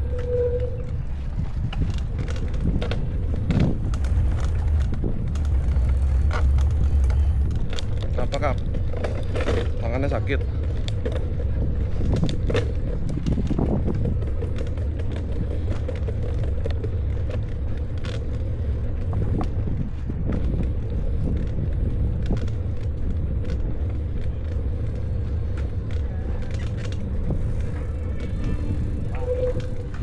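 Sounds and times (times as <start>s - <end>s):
bicycle clicks and rattles: 0.0s - 30.0s
bicycle riding rumble: 0.0s - 30.0s.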